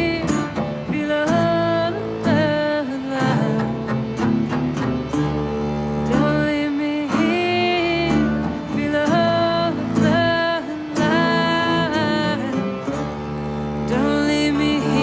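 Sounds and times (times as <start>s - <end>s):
woman singing long notes: 0.0s - 4.2s, 6.0s - 15.0s
acoustic guitar: 0.0s - 15.0s.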